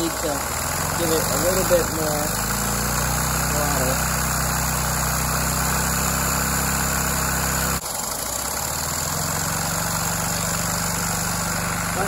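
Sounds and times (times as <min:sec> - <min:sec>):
vacuum engine mechanical drone: 0:00.0 - 0:12.0.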